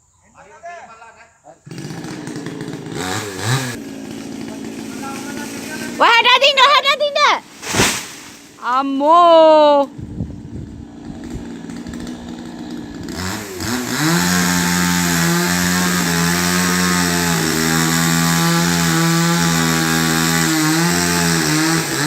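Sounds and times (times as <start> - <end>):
chainsaw engine running: 1.7 - 22.0.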